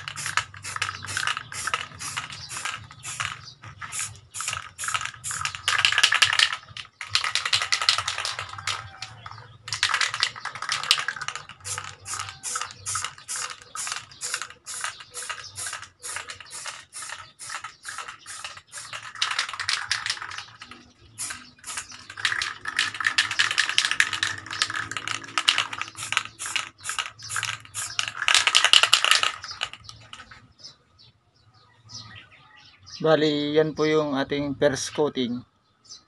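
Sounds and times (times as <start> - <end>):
spray can hissing: 0.0 - 30.2.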